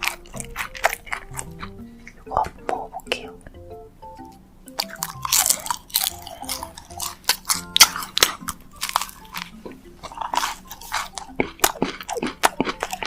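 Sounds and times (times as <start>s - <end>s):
crunching and chewing: 0.0s - 3.3s, 4.7s - 13.0s.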